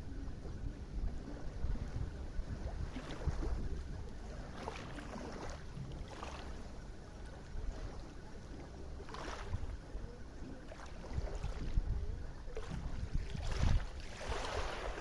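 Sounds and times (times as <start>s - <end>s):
river water lapping: 0.0s - 15.0s
wind buffeting microphone: 0.0s - 15.0s.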